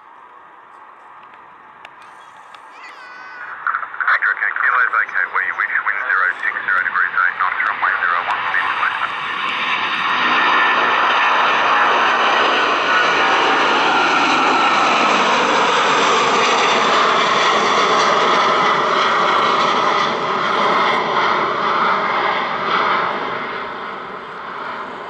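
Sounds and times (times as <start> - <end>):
jet engines roaring: 0.1 - 25.0.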